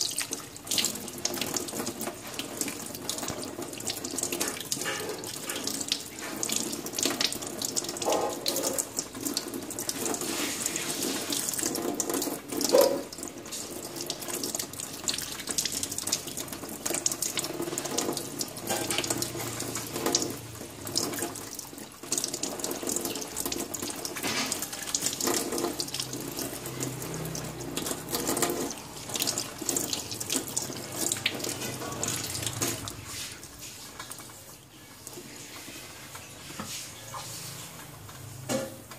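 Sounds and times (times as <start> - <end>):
hands rinsing meat: 0.0 - 38.9
tap water running into sink: 0.0 - 38.9.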